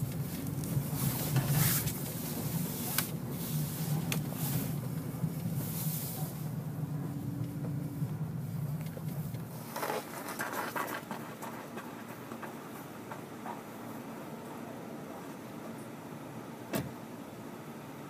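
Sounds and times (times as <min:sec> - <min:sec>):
car engine running at low revs: 0:00.0 - 0:18.0.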